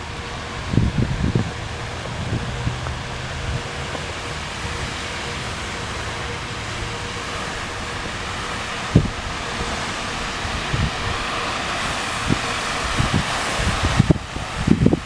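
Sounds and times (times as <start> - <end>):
faint steady tone: 0.0 - 13.8
even hiss: 0.0 - 15.0.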